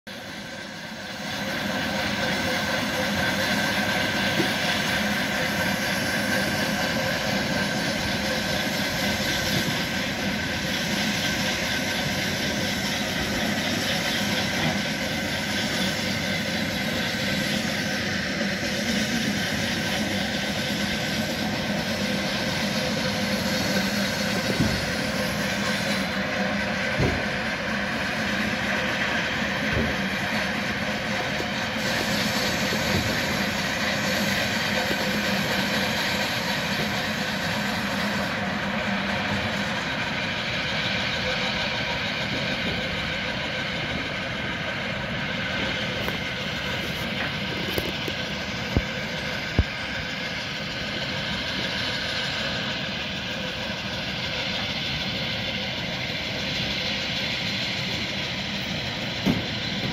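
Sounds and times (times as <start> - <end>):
engine-driven machinery droning: 0.1 - 59.9.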